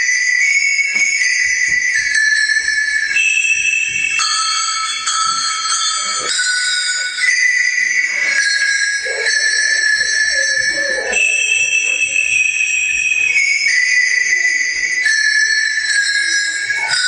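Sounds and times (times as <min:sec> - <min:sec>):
sleigh bells jingling a melody: 0:00.0 - 0:17.0.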